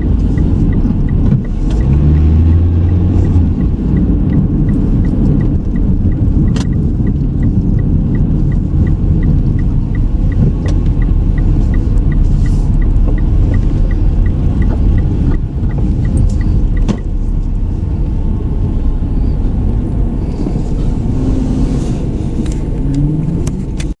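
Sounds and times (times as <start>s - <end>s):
road and engine rumble: 0.0s - 24.0s
turn signal ticking: 0.0s - 24.0s.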